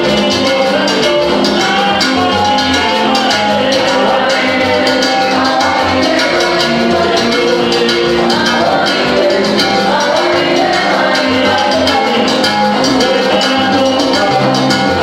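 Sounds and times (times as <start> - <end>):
live salsa band playing: 0.0 - 15.0
quick percussion beat: 0.0 - 15.0.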